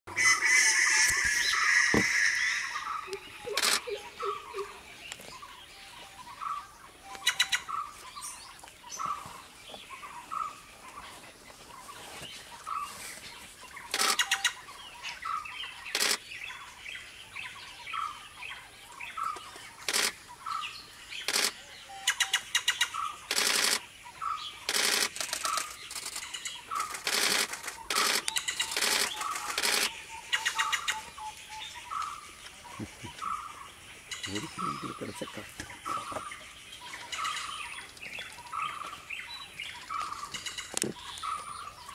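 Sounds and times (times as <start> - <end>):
harsh rattling bird calls: 0.1 - 11.2, 12.6 - 41.9.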